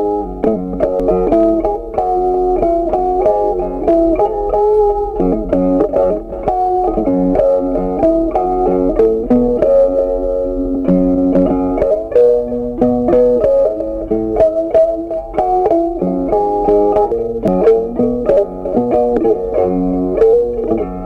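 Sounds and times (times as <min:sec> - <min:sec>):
plucked-string music over chords: 0:00.0 - 0:21.0.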